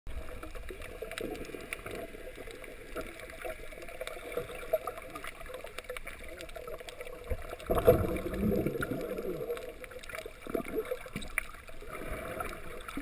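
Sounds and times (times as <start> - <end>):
muffled underwater wash: 0.1 - 13.0
small clicks and crackles: 0.1 - 13.0.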